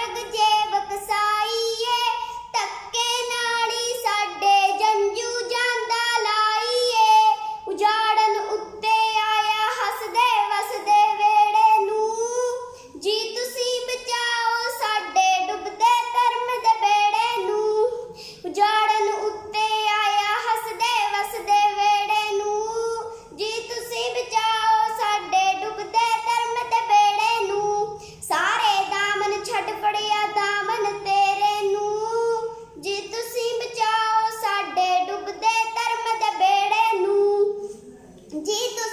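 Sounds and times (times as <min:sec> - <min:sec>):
girl singing unaccompanied: 0:00.0 - 0:38.9.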